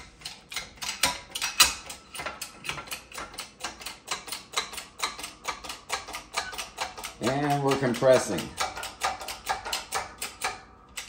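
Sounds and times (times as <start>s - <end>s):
hydraulic jack metallic clicks: 0.0s - 11.0s.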